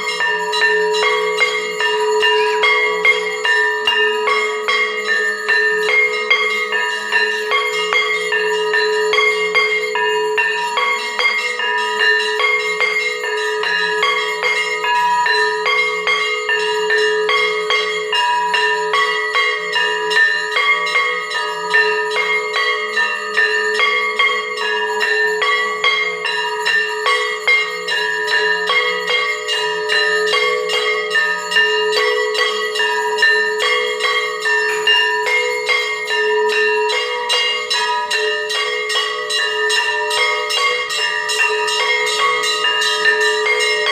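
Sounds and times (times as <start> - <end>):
temple bells ringing rapidly: 0.0 - 43.9.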